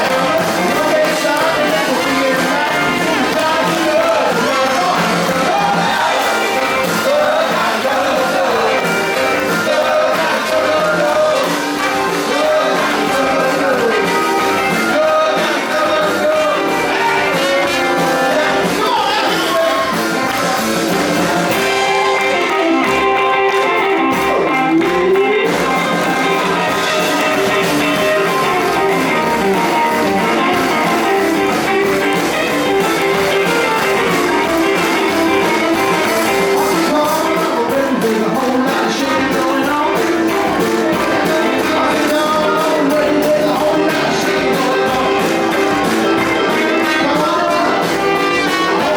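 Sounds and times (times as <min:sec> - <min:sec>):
guitar: 0:00.0 - 0:48.9
person singing: 0:00.0 - 0:48.9
rock and roll band playing: 0:00.0 - 0:48.9.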